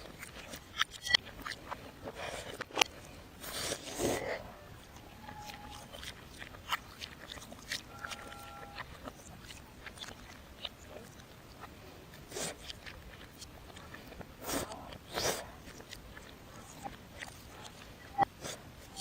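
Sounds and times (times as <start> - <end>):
reversed chewing mouth noises: 0.0 - 19.0.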